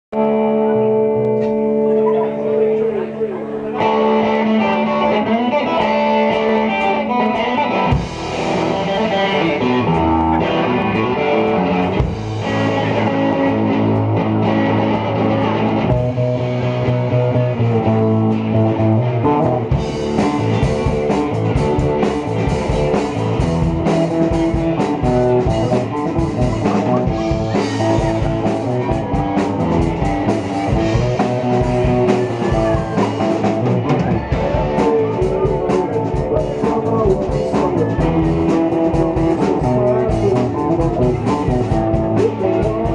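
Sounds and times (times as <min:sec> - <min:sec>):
bass guitar: 0:00.0 - 0:42.9
electric guitar: 0:00.1 - 0:42.9
drum kit: 0:03.8 - 0:42.9.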